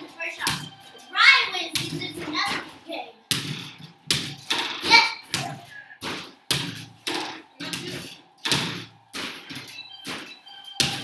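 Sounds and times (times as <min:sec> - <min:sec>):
basketballs thudding on backboard and rim: 0:00.4 - 0:00.8, 0:01.7 - 0:11.0.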